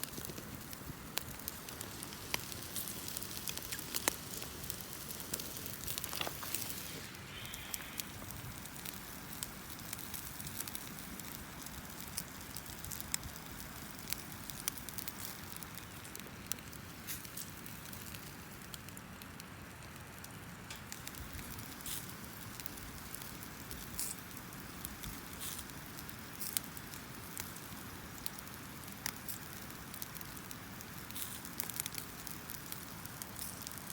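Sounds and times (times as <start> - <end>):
campfire crackling: 0.0 - 33.9.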